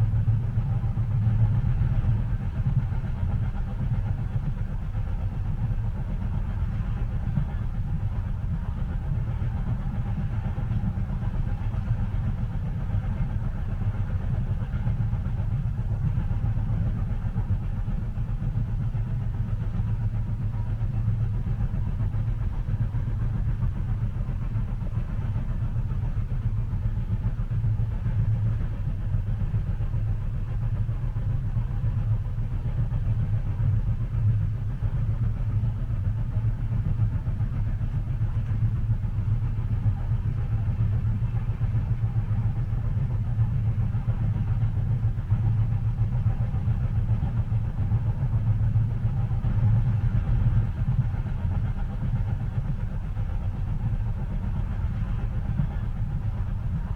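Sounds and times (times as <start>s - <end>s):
train rumbling inside carriage: 0.0s - 56.9s.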